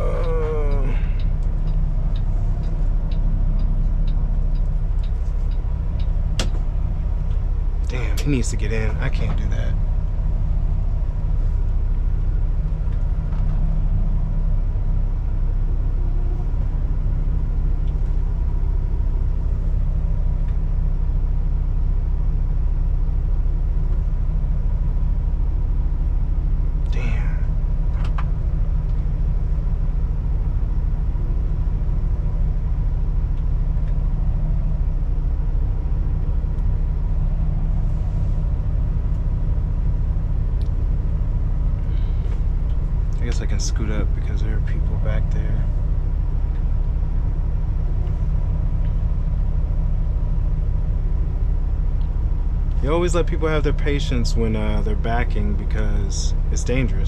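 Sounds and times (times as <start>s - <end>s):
truck diesel engine rumble: 0.0s - 57.0s.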